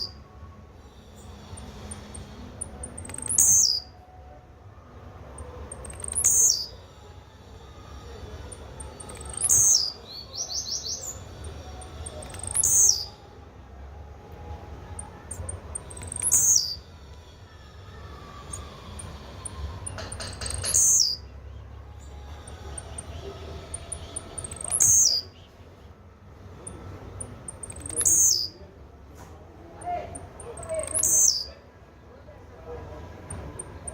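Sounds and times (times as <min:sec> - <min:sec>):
faint high chirps: 0:00.0 - 0:28.8, 0:29.8 - 0:31.7, 0:32.9 - 0:33.9.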